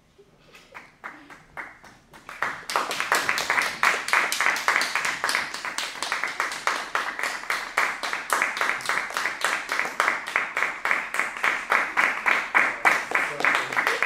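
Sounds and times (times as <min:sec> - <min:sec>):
audience applause: 0:02.2 - 0:14.0.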